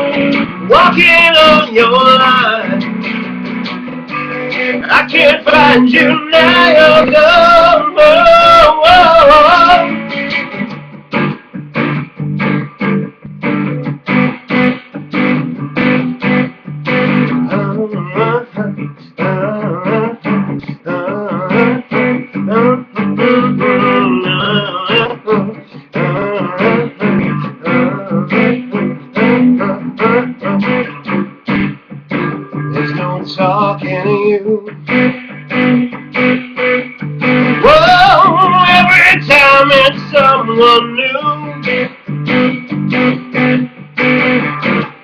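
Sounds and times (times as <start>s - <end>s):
guitar melodic line: 0.0s - 45.0s
guitar strumming chords: 0.0s - 45.0s.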